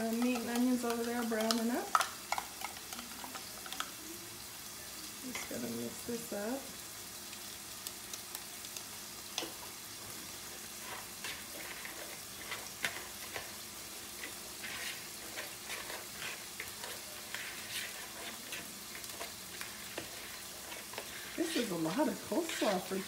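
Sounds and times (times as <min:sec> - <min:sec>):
meat sizzling in a skillet: 0:00.0 - 0:23.0.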